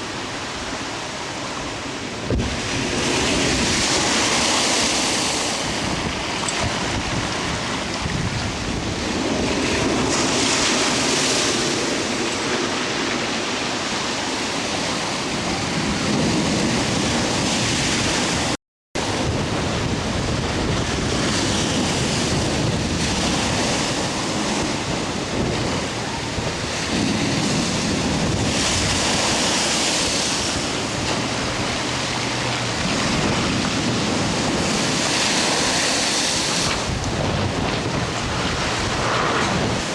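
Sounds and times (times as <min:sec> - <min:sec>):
surf crashing against sea wall: 0:00.0 - 0:39.9
wind buffeting microphone: 0:00.0 - 0:39.9.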